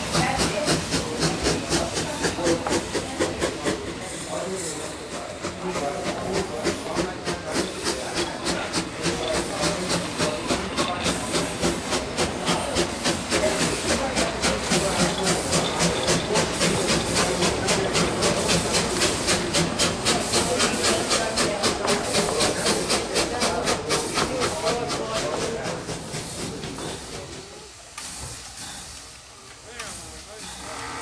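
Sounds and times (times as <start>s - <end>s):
steam hissing: 0.0s - 31.0s
steam locomotive chuffing: 0.0s - 31.0s.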